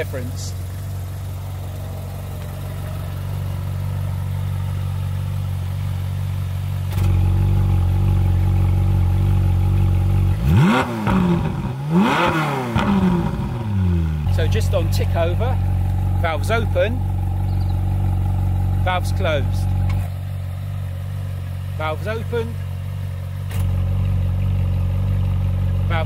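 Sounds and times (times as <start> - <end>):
engine revving: 0.0 - 20.3, 23.4 - 26.0
car engine idling: 0.0 - 26.0.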